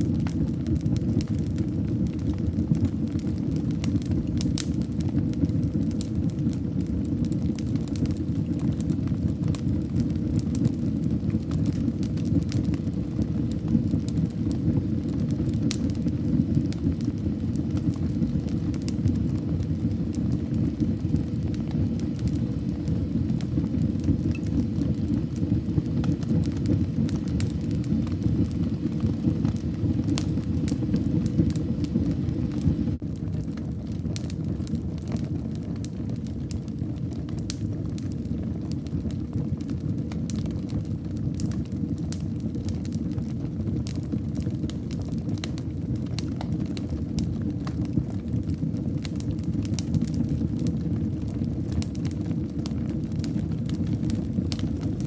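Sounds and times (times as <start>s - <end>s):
fire burning in fireplace: 0.0s - 55.0s
fire crackles and pops: 0.0s - 55.0s.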